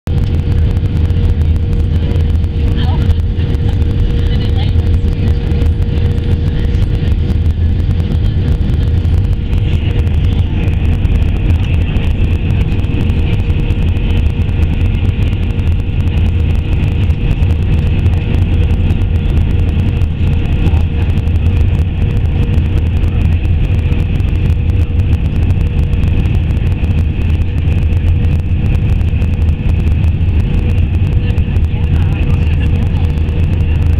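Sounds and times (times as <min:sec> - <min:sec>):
airliner engines rumbling: 0:00.0 - 0:33.9
high whine: 0:00.0 - 0:33.9
cabin hum: 0:00.1 - 0:33.9.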